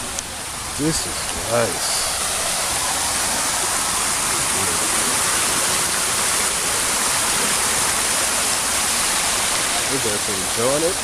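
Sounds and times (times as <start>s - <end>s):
falling water rushing: 0.0s - 11.0s.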